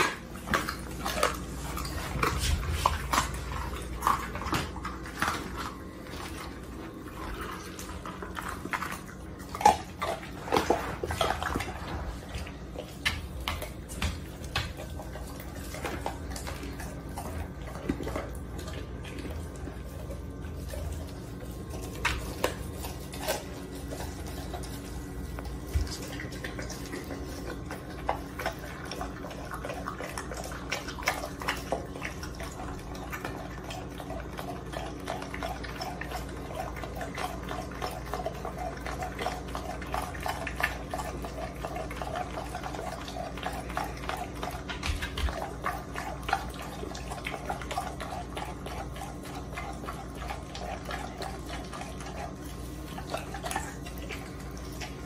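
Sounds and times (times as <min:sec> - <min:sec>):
dog chewing bones: 0:00.0 - 0:55.0.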